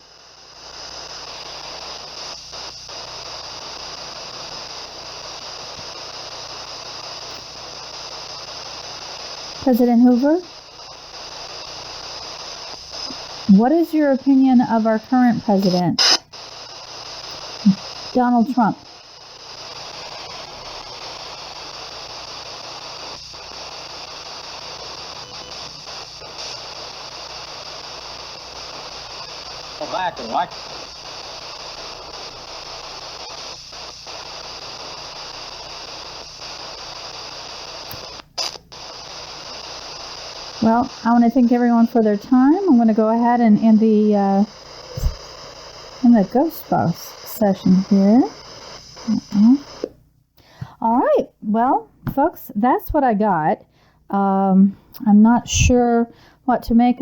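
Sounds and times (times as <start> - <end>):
radio static and hiss: 0.0 - 57.0.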